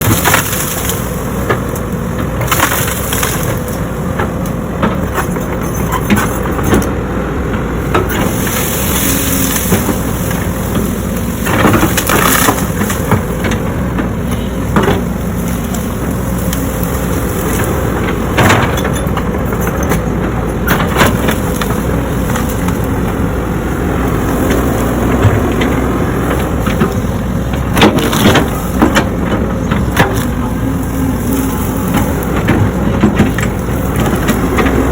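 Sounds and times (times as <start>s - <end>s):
wood and branches cracking: 0.0s - 5.5s, 8.0s - 34.9s
heavy diesel engine running: 0.0s - 34.9s.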